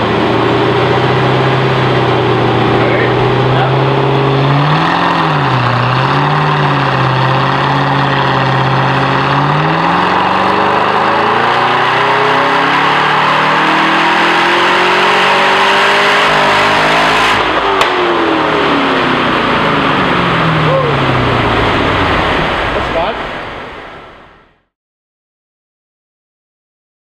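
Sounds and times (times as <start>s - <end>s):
car engine revving on dyno: 0.0s - 23.8s.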